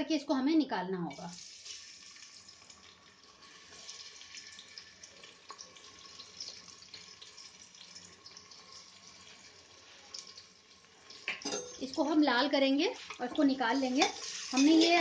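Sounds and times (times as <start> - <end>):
onions sizzling in hot oil: 1.0 - 15.0.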